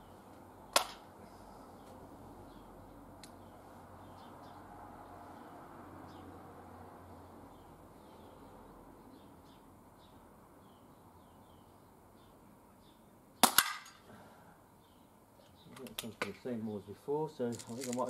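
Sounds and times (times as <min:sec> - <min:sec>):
small birds chirping: 0:00.0 - 0:13.5, 0:14.6 - 0:18.0.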